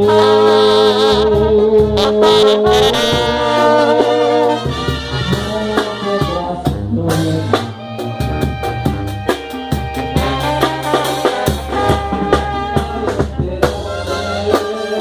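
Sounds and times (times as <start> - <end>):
brass band music: 0.0 - 15.0.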